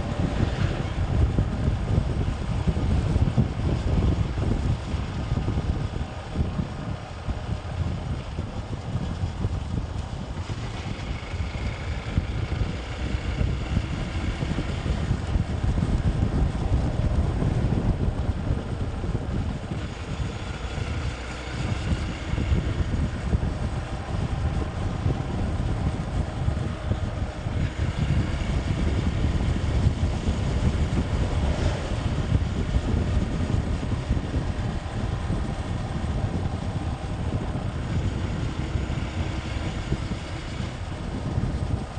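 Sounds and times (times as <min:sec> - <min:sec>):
motorcycle engine: 0:00.0 - 0:41.9
wind buffeting microphone: 0:00.0 - 0:41.9.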